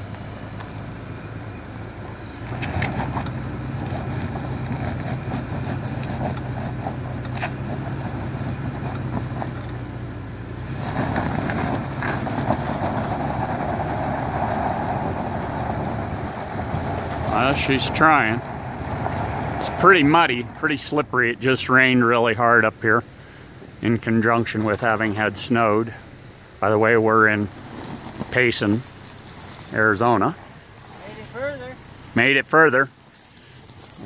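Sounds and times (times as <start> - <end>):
tyres scrabbling on gravel: 0.0 - 22.6, 26.6 - 34.0
suv engine pulling uphill: 0.0 - 34.0.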